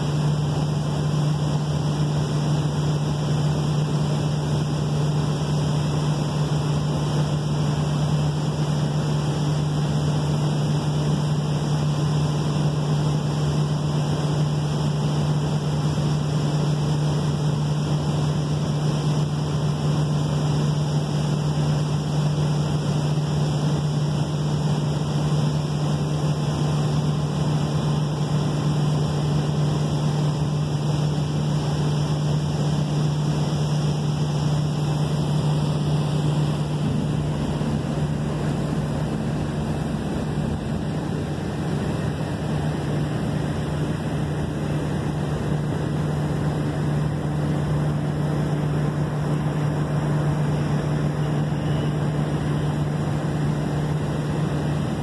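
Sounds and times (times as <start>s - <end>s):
constant rushing noise: 0.0s - 55.0s
ship engines droning hum: 0.0s - 55.0s.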